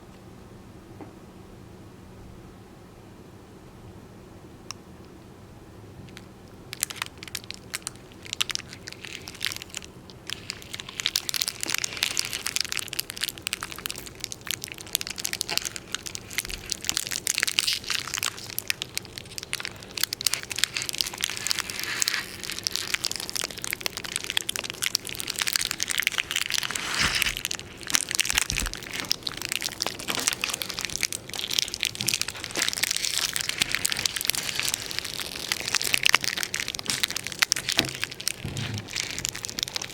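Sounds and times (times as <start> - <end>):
dense crackling and crunching: 6.1 - 39.9.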